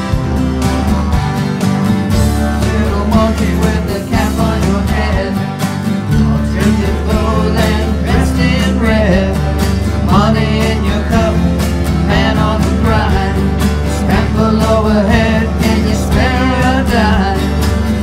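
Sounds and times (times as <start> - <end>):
country bluegrass band music: 0.0 - 18.0.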